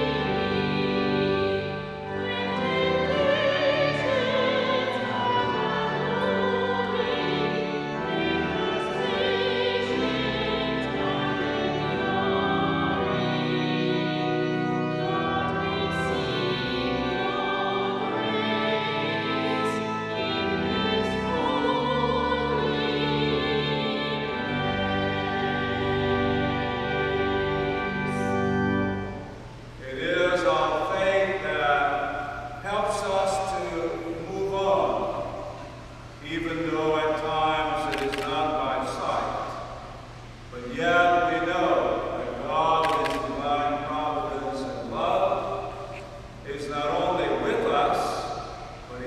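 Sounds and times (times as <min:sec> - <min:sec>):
person singing with vibrato: 0:00.0 - 0:49.0
sustained accompanying chords: 0:00.0 - 0:49.0.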